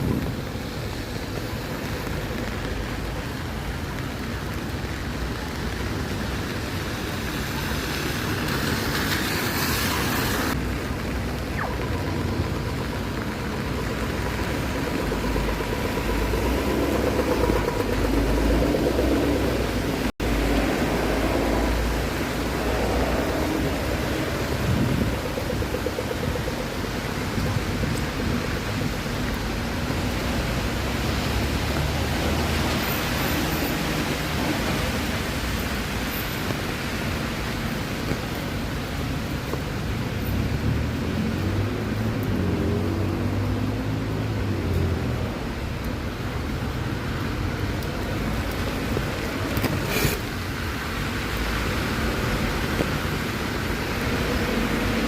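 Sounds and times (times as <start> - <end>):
street traffic: 0.0 - 55.0
vehicle engine rumbling: 0.0 - 55.0.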